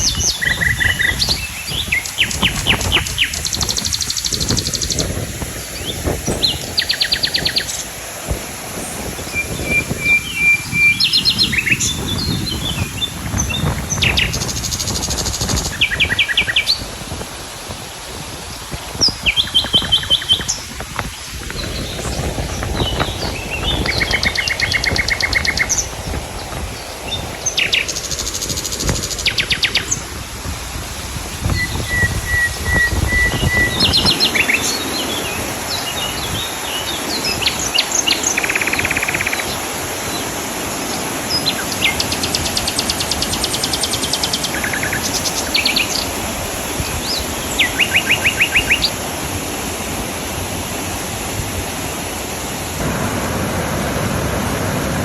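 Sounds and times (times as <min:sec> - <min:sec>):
birds singing and trilling: 0:00.0 - 0:08.0, 0:08.7 - 0:17.2, 0:18.2 - 0:30.3, 0:31.0 - 0:49.6
steady rushing noise: 0:00.0 - 0:55.0.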